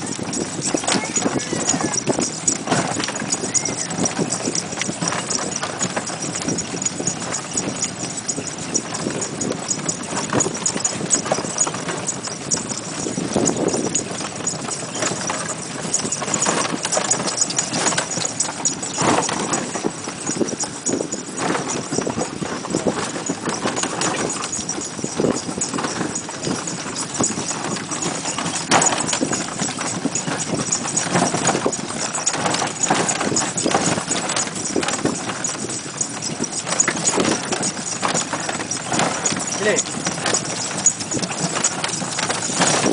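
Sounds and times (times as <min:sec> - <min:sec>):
pony hooves clip-clopping: 0:00.0 - 0:42.9.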